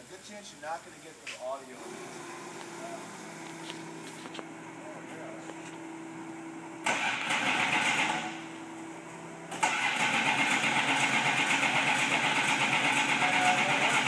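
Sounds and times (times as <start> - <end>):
car engine starting and running: 1.8 - 14.0.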